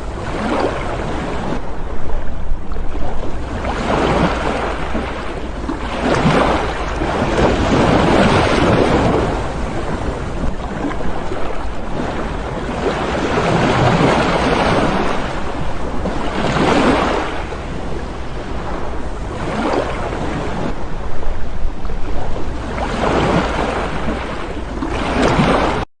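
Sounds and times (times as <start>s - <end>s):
waves washing on shore: 0.0s - 25.8s
wind rumbling on microphone: 0.0s - 25.8s.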